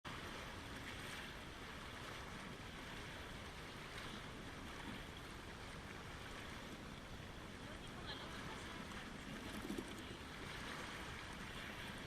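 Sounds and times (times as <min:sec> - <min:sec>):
rushing water: 0:00.1 - 0:12.0.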